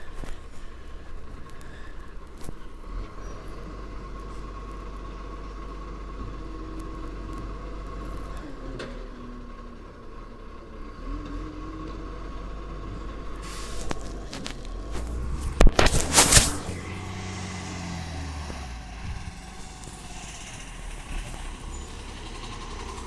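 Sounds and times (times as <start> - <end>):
garbage truck engine rumbling: 0.0 - 23.0.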